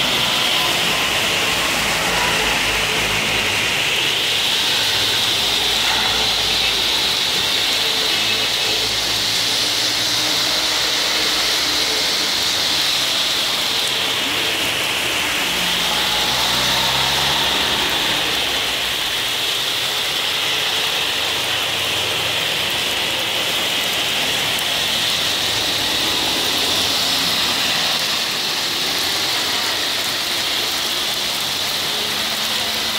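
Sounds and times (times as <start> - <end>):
car engines passing: 0.0 - 32.9
car tyres hissing through water: 0.0 - 32.9
heavy rain on road: 0.0 - 32.9.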